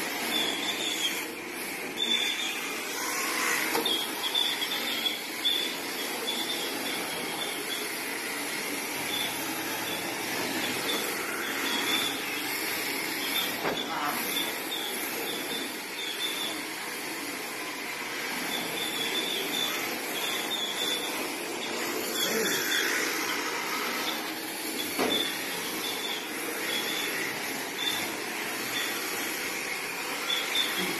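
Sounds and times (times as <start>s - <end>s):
high motor whine: 0.1s - 30.9s.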